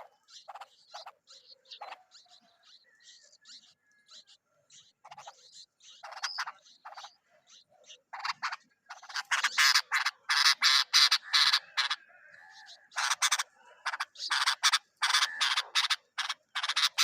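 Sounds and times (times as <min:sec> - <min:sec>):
harsh raspy bird calls: 0:00.0 - 0:17.0.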